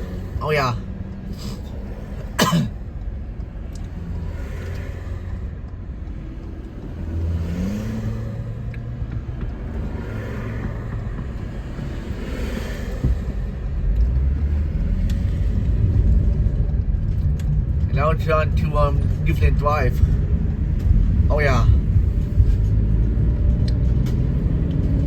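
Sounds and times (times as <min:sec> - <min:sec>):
car engine hum: 0:00.0 - 0:25.0
road noise inside vehicle: 0:00.0 - 0:25.0.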